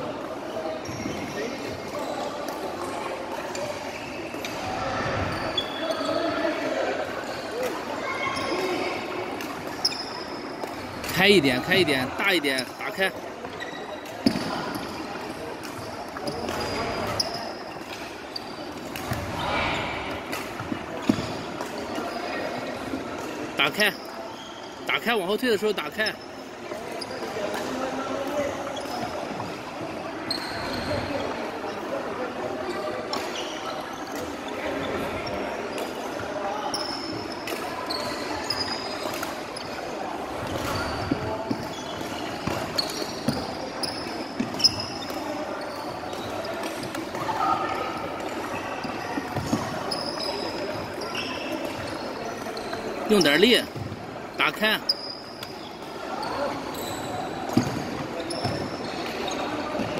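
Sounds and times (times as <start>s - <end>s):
echoing chatter: 0.0s - 59.9s
sneakers squeaking on floor: 0.1s - 59.9s.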